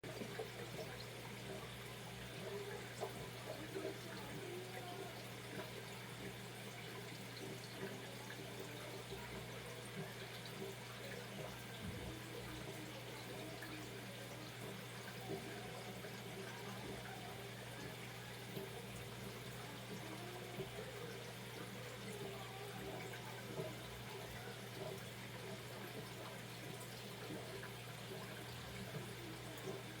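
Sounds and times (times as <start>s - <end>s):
aquarium water trickling and bubbling: 0.0s - 30.0s.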